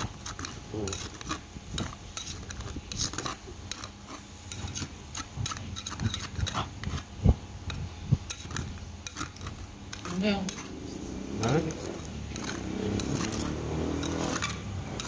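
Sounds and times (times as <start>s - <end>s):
metal spoon scraping clay pot: 0.0s - 15.0s.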